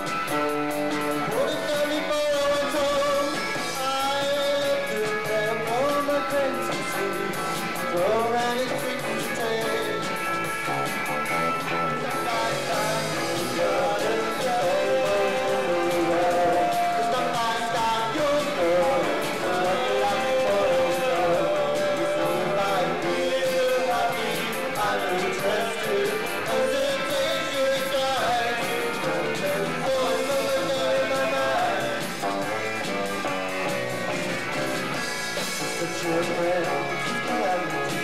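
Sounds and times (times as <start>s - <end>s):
drums: 0.0s - 38.0s
electric guitars: 0.0s - 38.0s
person singing: 1.1s - 10.2s, 12.0s - 32.4s, 35.4s - 38.0s.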